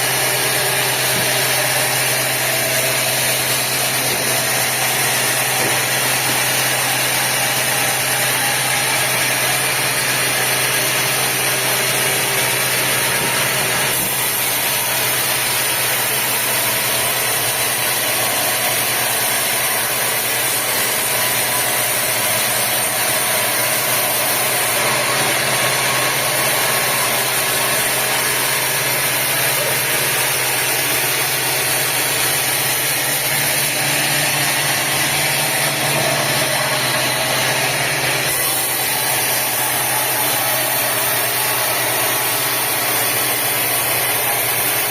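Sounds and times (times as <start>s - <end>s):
sawmill machinery droning: 0.0s - 44.9s.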